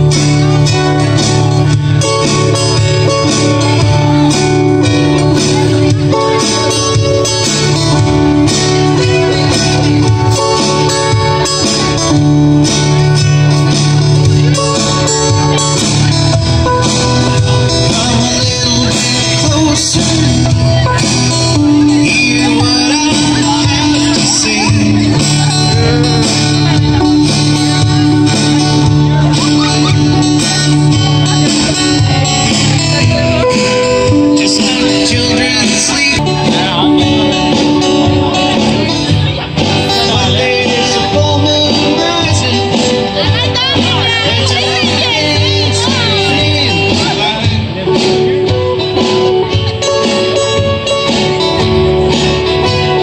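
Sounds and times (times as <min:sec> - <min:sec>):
acoustic guitar strumming chords: 0:00.0 - 0:53.0
second guitar playing: 0:00.0 - 0:53.0.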